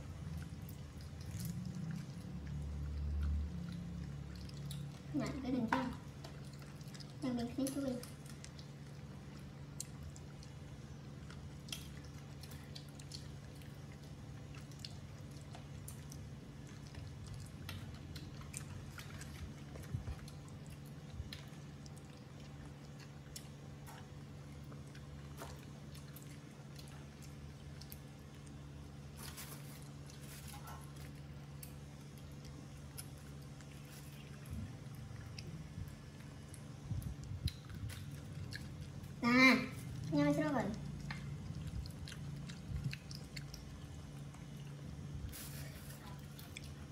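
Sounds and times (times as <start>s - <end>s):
monkeys chewing and lip smacking: 0.0s - 46.9s
steady low hum: 0.0s - 46.9s.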